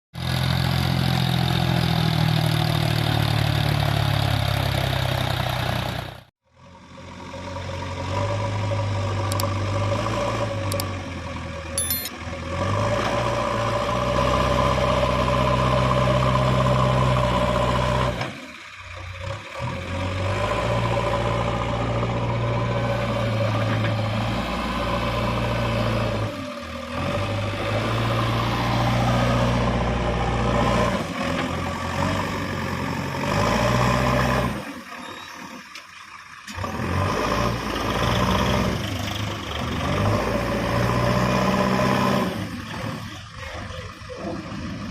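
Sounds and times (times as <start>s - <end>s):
heavy diesel machinery running: 0.2s - 44.9s.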